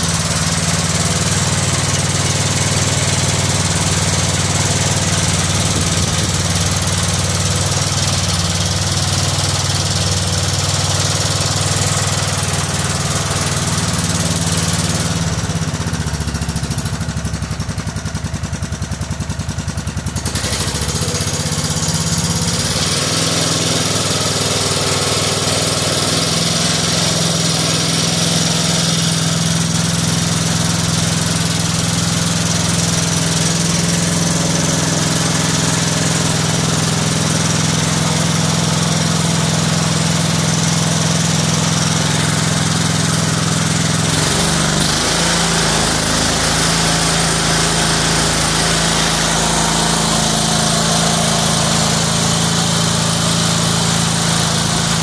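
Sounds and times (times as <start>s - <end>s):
single-cylinder engine running: 0.0s - 55.0s.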